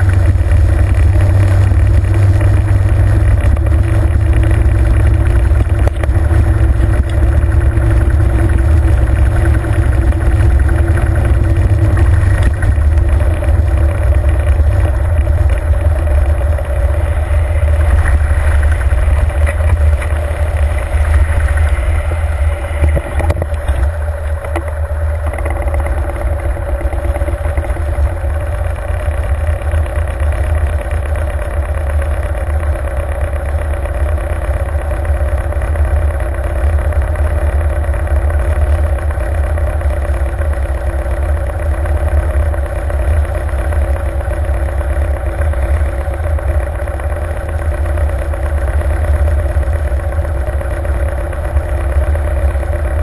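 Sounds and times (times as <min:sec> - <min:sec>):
motorcycle engine rumbling: 0:00.0 - 0:53.0.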